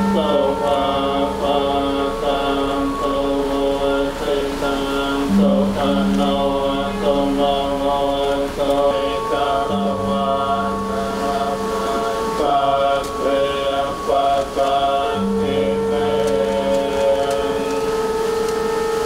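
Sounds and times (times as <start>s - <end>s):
monks chanting in unison: 0.0s - 19.0s.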